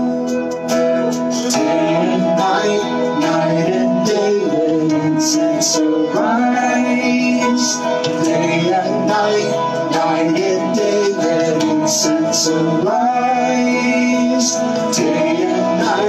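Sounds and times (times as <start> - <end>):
person singing: 0.0 - 16.0
worship song with guitar: 0.0 - 16.0.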